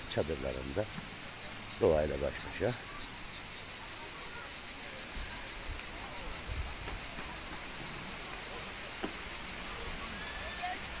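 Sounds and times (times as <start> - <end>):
faint distant voices: 0.0 - 11.0
insect buzzing chorus: 0.0 - 11.0.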